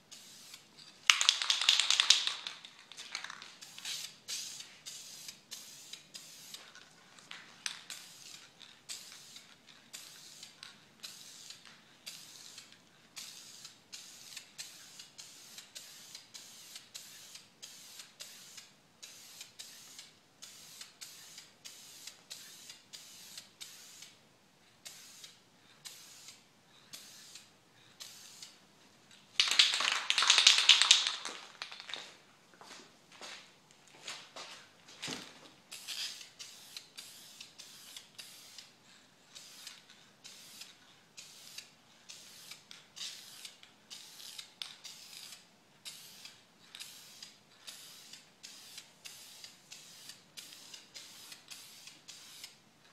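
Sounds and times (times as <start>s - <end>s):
spray-paint can hissing: 0.1s - 6.8s, 7.7s - 24.2s, 24.8s - 28.6s, 29.4s - 31.8s, 35.7s - 52.6s.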